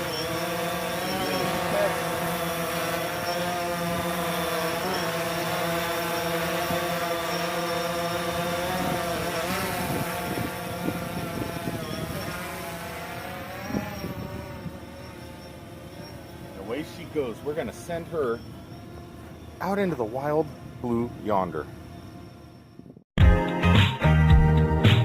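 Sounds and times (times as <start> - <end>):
drone propellers buzzing whine: 0.0 - 23.0.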